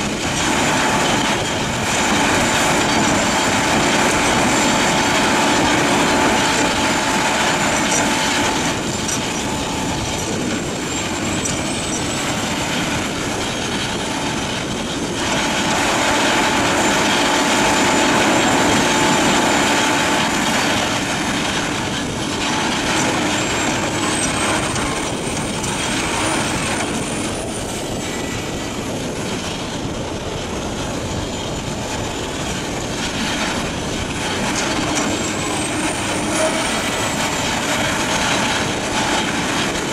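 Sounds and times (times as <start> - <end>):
shredder grinding waste wood: 0.0 - 28.4, 33.3 - 39.9
diesel engine under load: 0.0 - 39.9
thin high whine: 0.0 - 39.9.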